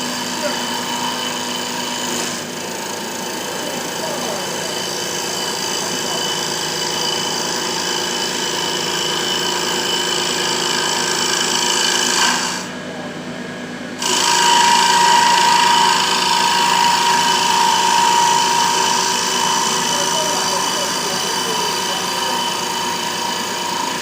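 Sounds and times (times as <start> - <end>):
wood lathe motor whine: 0.0 - 12.8, 14.0 - 24.0.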